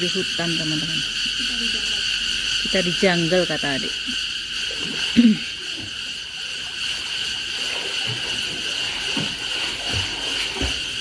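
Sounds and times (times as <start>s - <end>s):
insects droning: 0.0s - 11.0s
pool water splashing: 0.0s - 11.0s.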